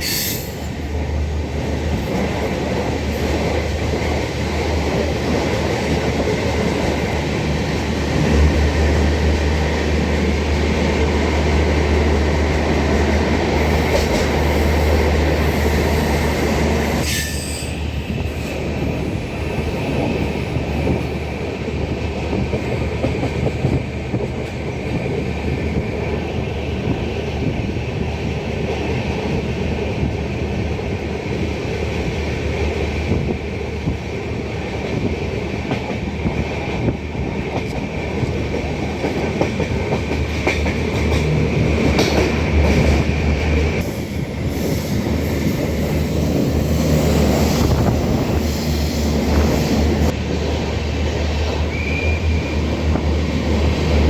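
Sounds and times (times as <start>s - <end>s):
train wheels rumbling and clacking: 0.0s - 54.0s.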